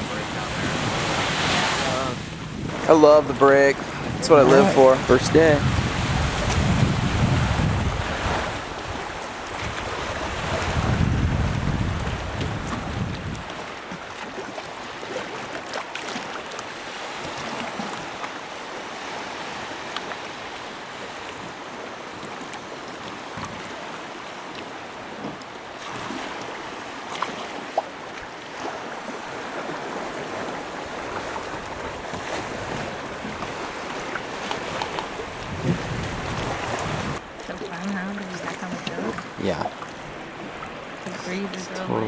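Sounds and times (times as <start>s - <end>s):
water splashing against boat hull: 2.6s - 42.0s.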